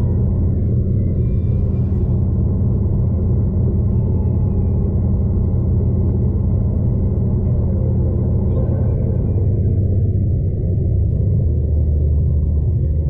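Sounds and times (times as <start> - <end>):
train wheels on track rumbling: 0.0 - 13.0.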